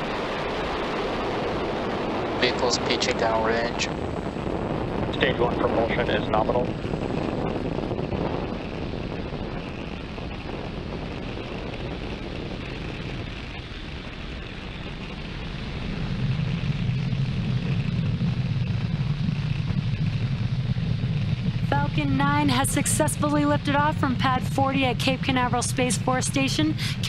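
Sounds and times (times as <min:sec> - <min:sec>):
rocket engines crackling rumble: 0:00.0 - 0:27.0.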